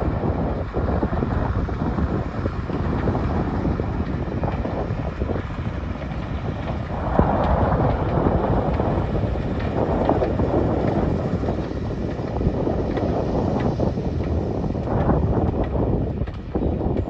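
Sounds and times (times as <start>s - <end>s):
diesel locomotive engine running: 0.0s - 17.0s
wind noise on microphone: 0.0s - 17.0s.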